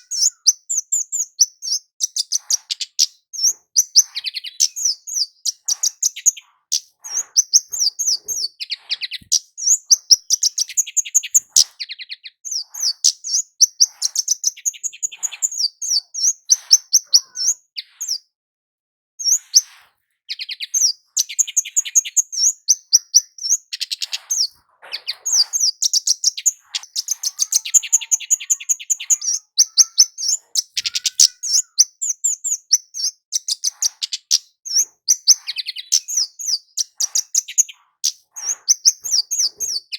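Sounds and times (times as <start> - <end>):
small bird chirping and trilling: 0.0 - 18.4, 19.2 - 39.9.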